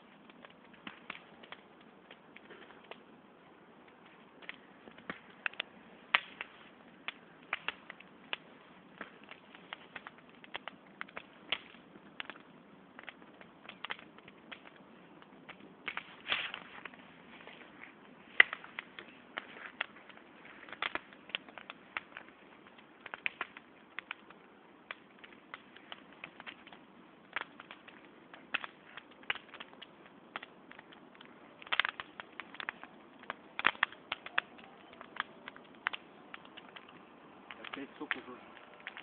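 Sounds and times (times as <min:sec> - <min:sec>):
bonfire crackling: 0:00.0 - 0:39.0.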